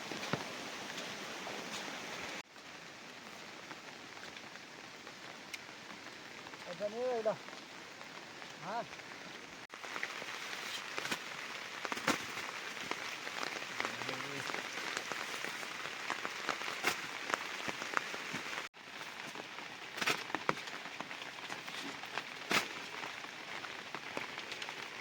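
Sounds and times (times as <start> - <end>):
heavy rain falling: 0.0 - 25.0
raindrops tapping close by: 0.0 - 25.0.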